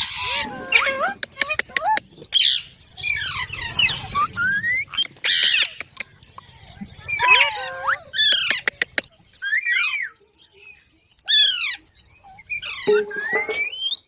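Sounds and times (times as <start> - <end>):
parrots squawking: 0.0 - 6.0, 7.1 - 10.1, 11.3 - 14.0.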